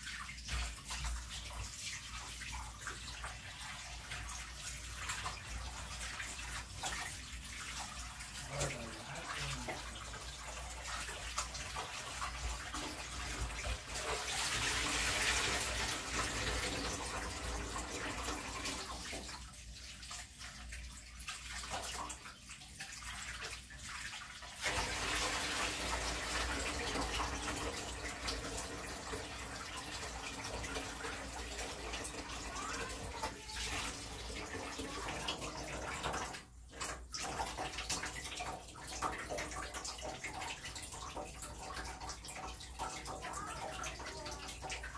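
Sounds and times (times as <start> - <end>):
tap water running into sink: 0.0 - 44.9.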